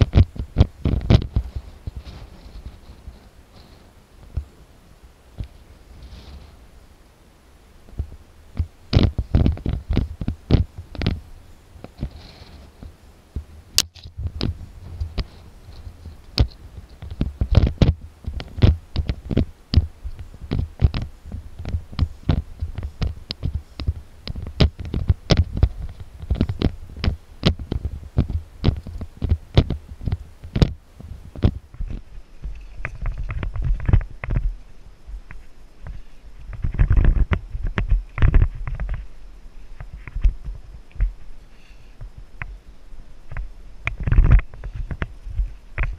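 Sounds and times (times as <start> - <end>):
footsteps on bare rock: 0.0 - 4.5, 7.9 - 41.4.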